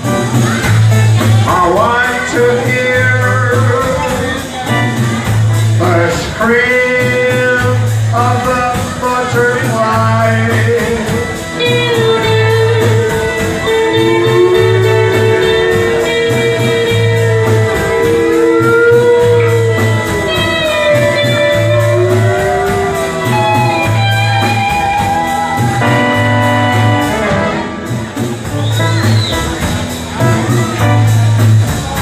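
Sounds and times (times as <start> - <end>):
lead guitar with bending notes: 0.0 - 32.0
repeating bass line: 0.0 - 32.0.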